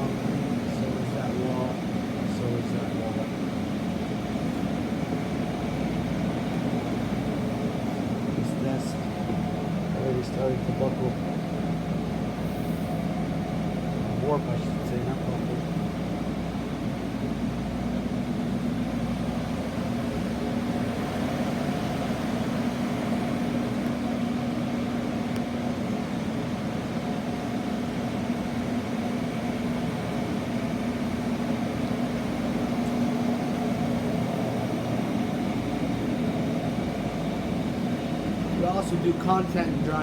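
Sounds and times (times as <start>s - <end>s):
dehumidifiers humming: 0.0s - 40.0s
fans whirring: 0.0s - 40.0s.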